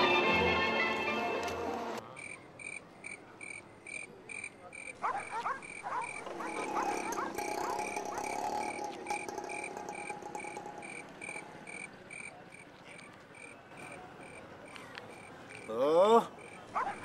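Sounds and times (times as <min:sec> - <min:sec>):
frogs croaking: 0:02.2 - 0:15.8, 0:16.4 - 0:17.0.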